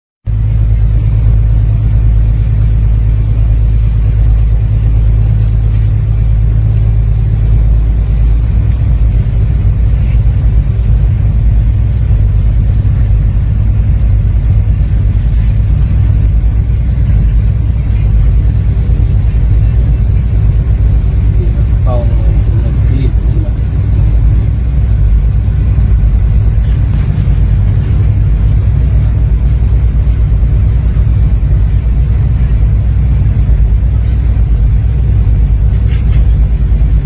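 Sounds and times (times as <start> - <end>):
boat engine low rumble: 0.2 - 37.0.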